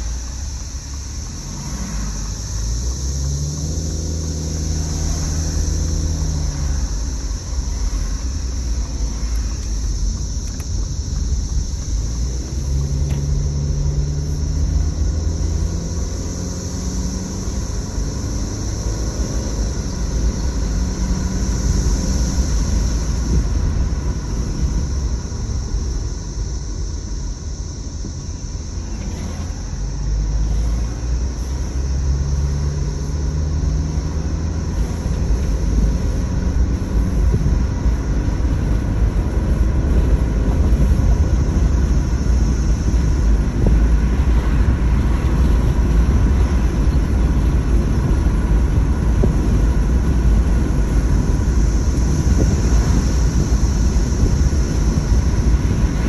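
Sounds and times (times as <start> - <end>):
car engine and tyres rumbling: 0.0 - 56.0
cicadas droning: 0.0 - 56.0.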